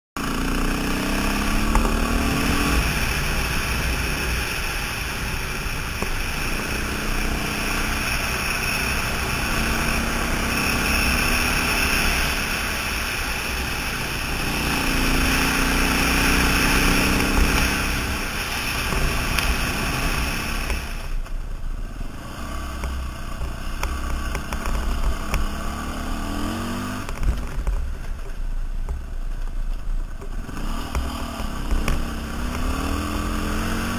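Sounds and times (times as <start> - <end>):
dirt bike engine revving: 0.2 - 21.2, 22.1 - 27.2, 30.3 - 33.9.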